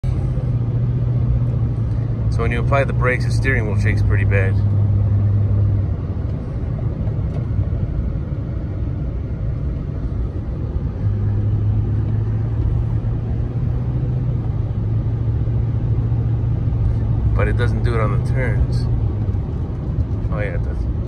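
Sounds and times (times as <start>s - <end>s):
engine drone inside vehicle: 0.0s - 21.0s
tyre and road rumble: 0.0s - 21.0s.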